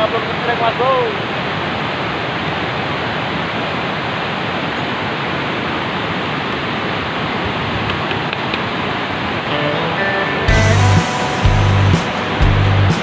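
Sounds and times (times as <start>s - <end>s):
rush of river water: 0.0s - 13.0s.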